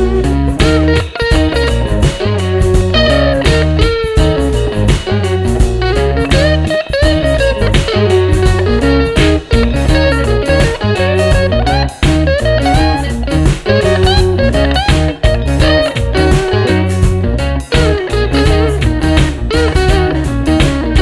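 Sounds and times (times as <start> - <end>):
bass and drums: 0.0 - 21.0
electric guitar lead lines: 0.0 - 21.0.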